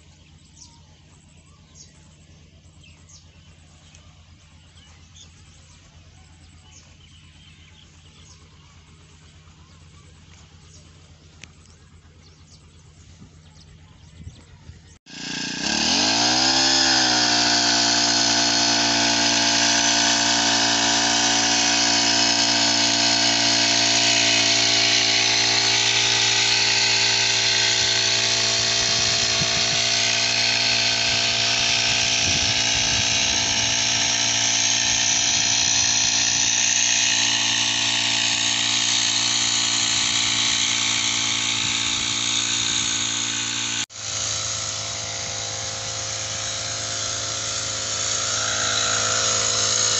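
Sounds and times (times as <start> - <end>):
motorized sprayer running: 0.0 - 49.9.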